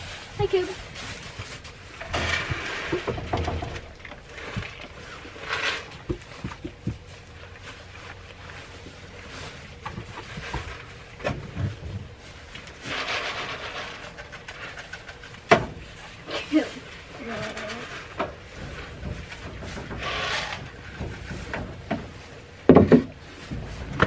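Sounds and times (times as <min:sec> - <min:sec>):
straw bedding rustling: 0:00.0 - 0:24.0.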